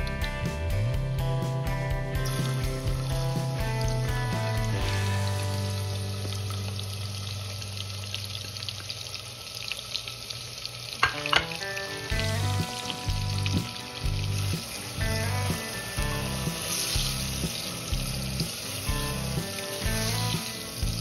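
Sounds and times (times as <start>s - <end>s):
soft background music: 0.0s - 8.7s, 11.0s - 21.0s
onions sizzling in hot oil: 2.1s - 21.0s.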